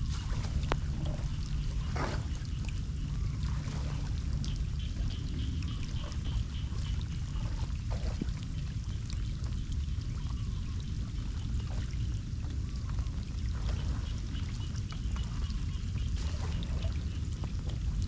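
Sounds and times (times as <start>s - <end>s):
floodwater running: 0.0s - 18.0s
rain falling on water: 0.0s - 18.0s.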